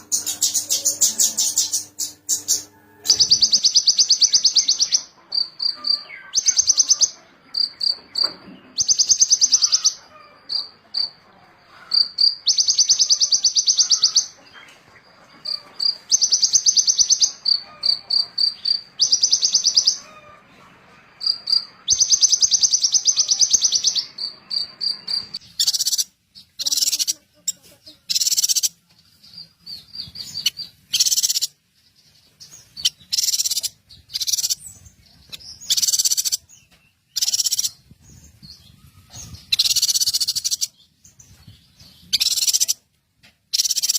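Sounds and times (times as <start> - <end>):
harsh scratchy bird calls: 0.0 - 43.9
songbird buzzy trills: 0.0 - 43.9.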